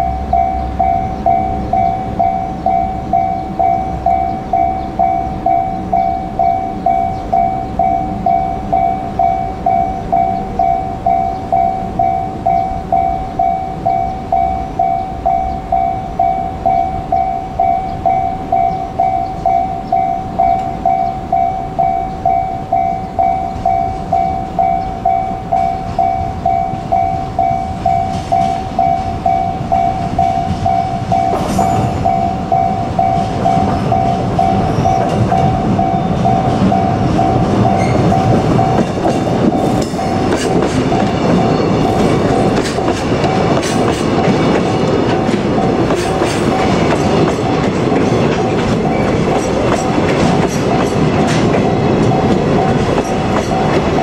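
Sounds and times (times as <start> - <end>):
level crossing bell dinging: 0.0 - 44.9
train wagons clanking: 0.0 - 54.0
train wheels rumbling on rails: 0.0 - 54.0.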